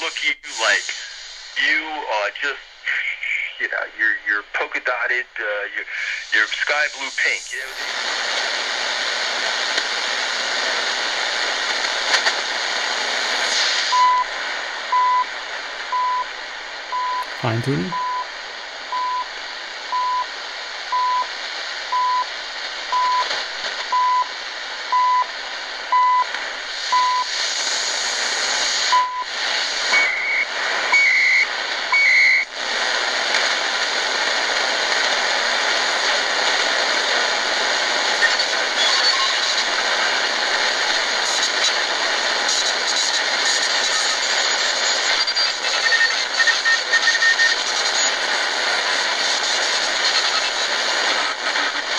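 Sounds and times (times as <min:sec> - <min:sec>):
radio static hiss: 0:00.0 - 0:18.1, 0:19.9 - 0:51.9.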